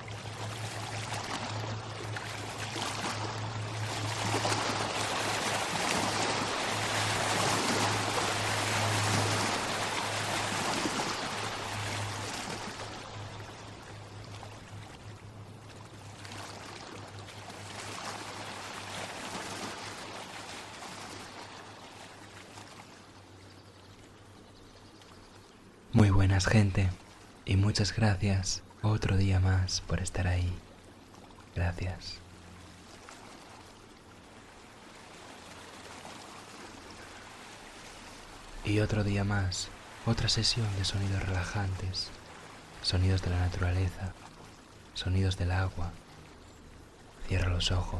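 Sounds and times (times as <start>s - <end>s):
stream water rushing: 0.0s - 23.4s, 25.5s - 47.9s.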